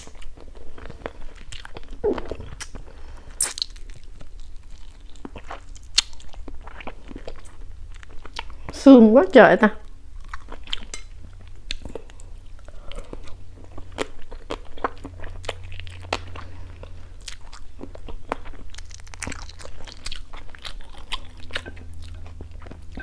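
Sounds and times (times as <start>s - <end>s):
bones crunching while chewing: 0.0s - 8.8s, 9.9s - 23.0s
low steady hum: 0.0s - 23.0s.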